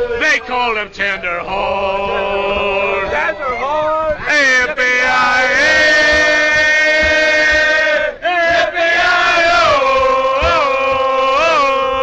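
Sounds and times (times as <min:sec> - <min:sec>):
men singing together: 0:00.0 - 0:03.4, 0:04.2 - 0:12.0.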